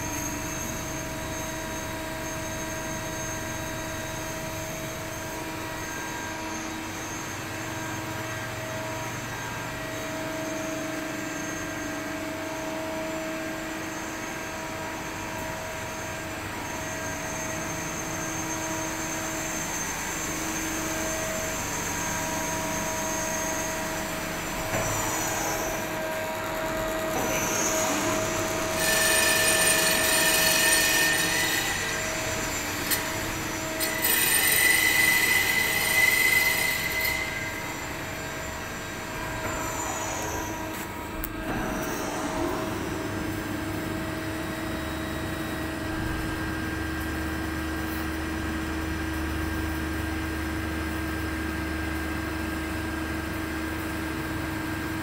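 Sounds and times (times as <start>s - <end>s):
high-pitched machine whine: 0.0s - 55.0s
lathe mechanical hum: 0.0s - 55.0s.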